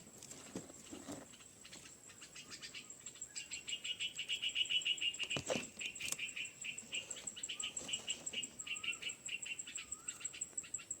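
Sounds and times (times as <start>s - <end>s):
baby birds chirping: 1.6s - 11.0s.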